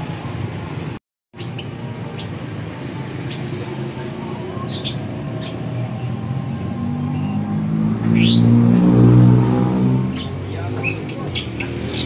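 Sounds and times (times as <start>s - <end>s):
songbirds chirping and whistling: 1.4s - 9.1s, 10.1s - 12.0s.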